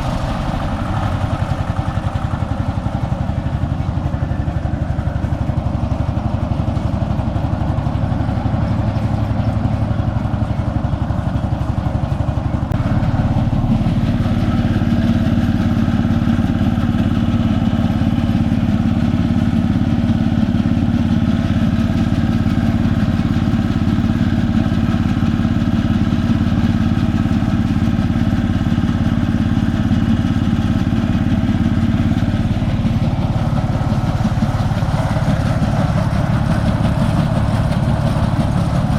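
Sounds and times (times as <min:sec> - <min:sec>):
thresher engine drone: 0:00.0 - 0:38.9.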